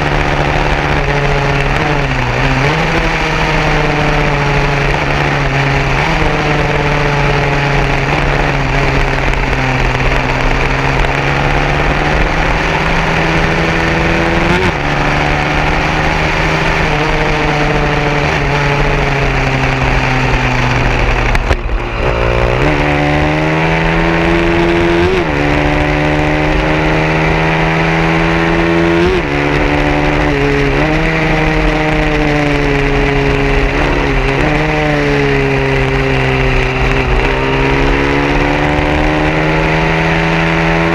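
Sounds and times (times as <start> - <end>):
motorcycle engine revving hard: 0.0 - 40.9
wind noise: 0.0 - 40.9.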